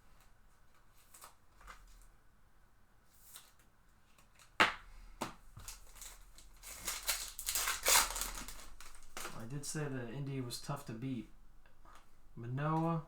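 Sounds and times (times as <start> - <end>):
faint rustling of card wrappers: 0.0 - 2.3, 3.0 - 13.0.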